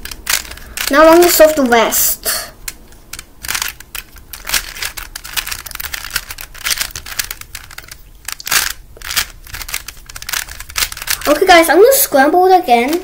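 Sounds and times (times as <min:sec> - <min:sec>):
puzzle cube clicking and scraping: 0:00.0 - 0:11.9.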